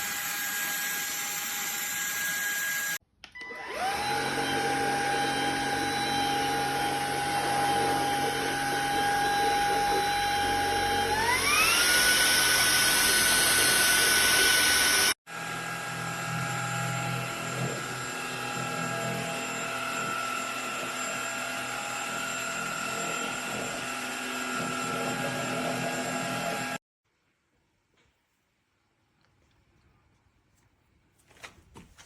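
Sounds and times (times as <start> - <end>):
stick vacuum motor whining: 0.0 - 26.8.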